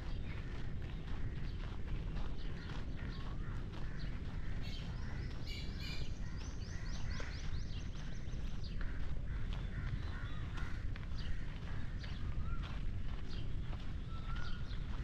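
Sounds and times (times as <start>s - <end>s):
birds calling: 0.0s - 15.0s
footsteps on gravel: 0.0s - 15.0s.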